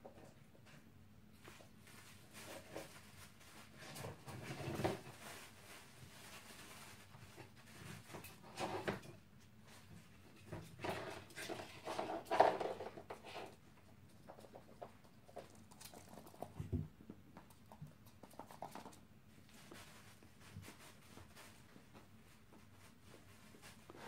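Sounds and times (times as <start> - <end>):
dogs playing and scuffling: 1.4 - 24.0.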